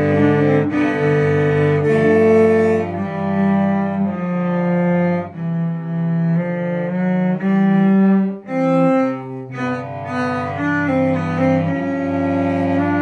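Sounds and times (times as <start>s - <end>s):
two cellos playing a duet: 0.0s - 13.0s.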